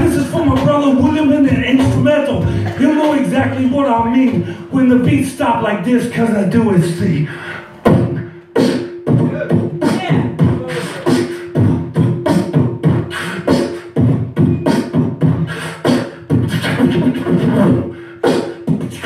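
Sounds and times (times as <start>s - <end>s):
man beatboxing into microphone: 0.0s - 19.0s.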